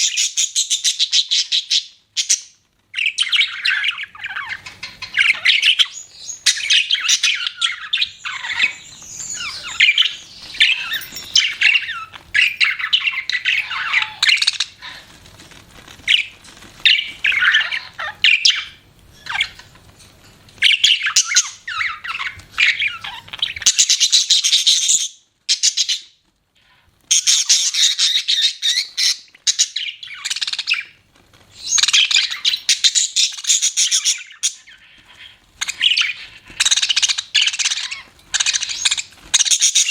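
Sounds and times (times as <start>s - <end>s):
budgerigars chirping and chattering: 0.0s - 19.8s, 20.6s - 39.9s.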